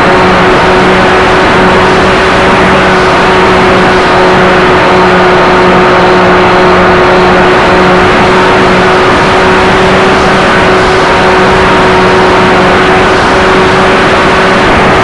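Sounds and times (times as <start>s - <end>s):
model plane motor droning: 0.0s - 15.0s.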